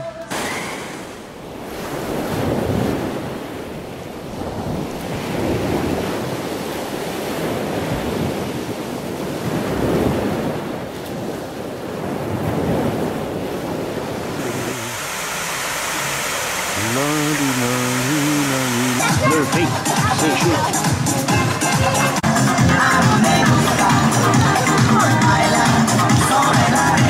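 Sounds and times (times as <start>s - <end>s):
wind on microphone: 0.0s - 22.2s
sea waves washing: 0.0s - 27.0s.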